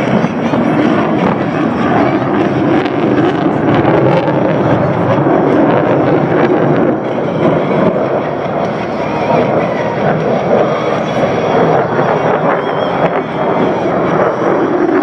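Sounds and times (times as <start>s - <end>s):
jet aircraft engines roaring: 0.0s - 15.0s.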